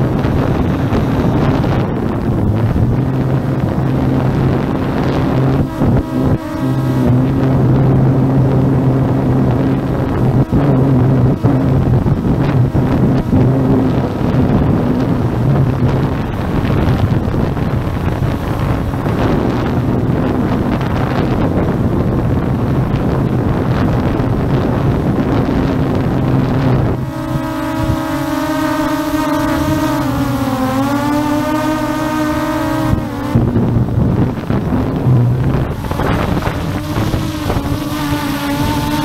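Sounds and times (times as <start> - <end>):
drone propellers whining: 0.0 - 39.0
wind buffeting microphone: 0.0 - 39.0.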